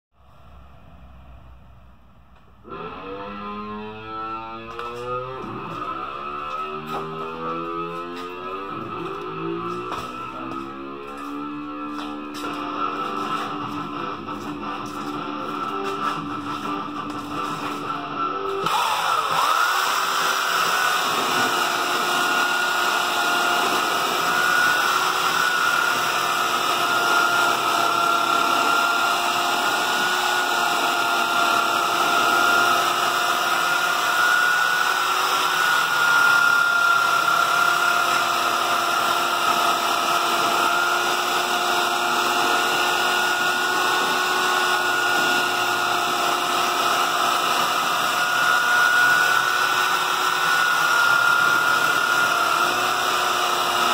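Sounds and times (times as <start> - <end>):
belt sander sanding plastic: 4.4 - 53.9.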